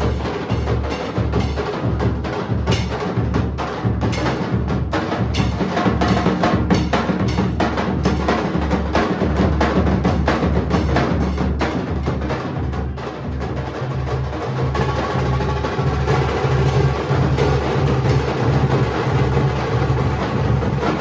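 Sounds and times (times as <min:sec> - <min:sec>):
dhol drums beaten in rhythm: 0:00.0 - 0:21.0.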